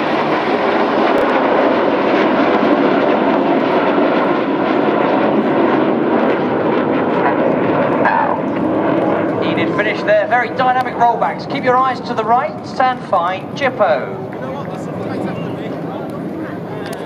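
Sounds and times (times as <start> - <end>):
jets flying overhead: 0.0 - 17.0.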